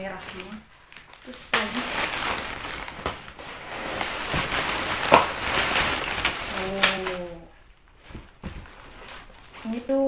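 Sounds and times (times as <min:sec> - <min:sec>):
plastic wrapping rustling: 0:00.0 - 0:10.0.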